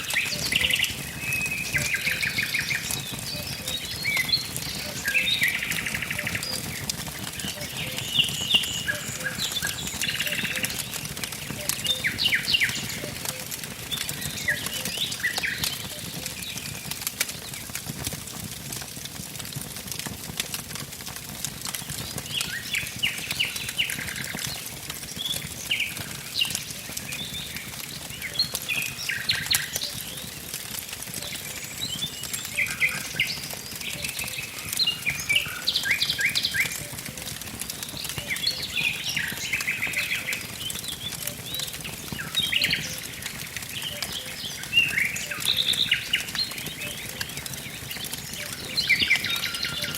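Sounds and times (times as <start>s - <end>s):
songbirds trilling and chirping: 0.0s - 18.6s, 19.2s - 49.9s
wood fire crackling and popping: 0.0s - 49.9s.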